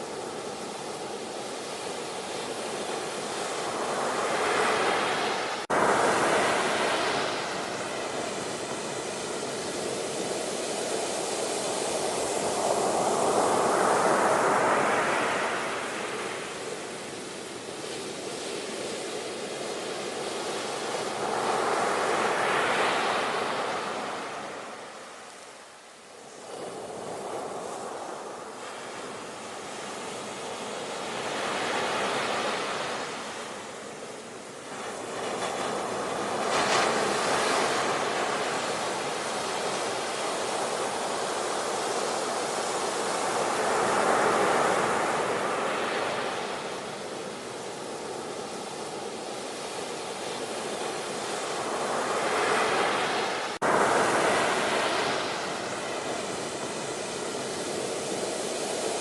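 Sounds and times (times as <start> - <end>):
ocean waves surging: 0.0 - 59.0.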